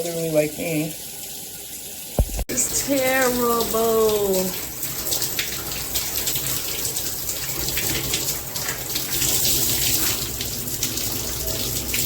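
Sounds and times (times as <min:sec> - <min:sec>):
shower water spraying: 0:02.2 - 0:12.0.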